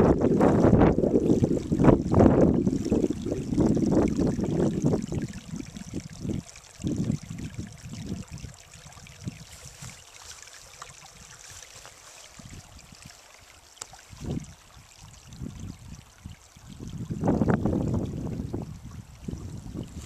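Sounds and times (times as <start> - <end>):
wind buffeting microphone: 0.0 - 10.0, 10.9 - 13.2, 14.1 - 20.0
stream trickling over rocks: 0.0 - 20.0.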